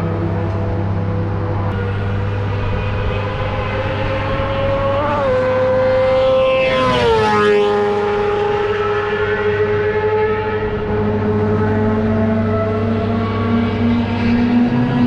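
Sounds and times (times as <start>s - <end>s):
racing car passing at speed: 0.0s - 15.0s.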